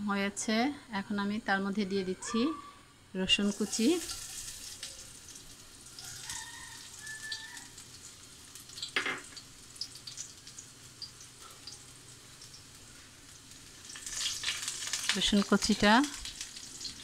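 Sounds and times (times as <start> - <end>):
garlic sizzling in hot oil: 3.3 - 17.0.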